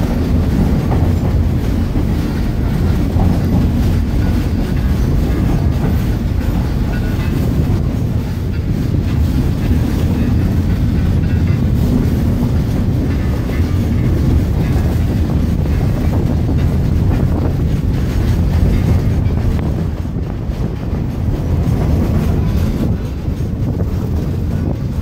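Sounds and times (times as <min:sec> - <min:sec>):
train wheels rumbling on rails: 0:00.0 - 0:25.0
wind buffeting microphone: 0:00.0 - 0:25.0.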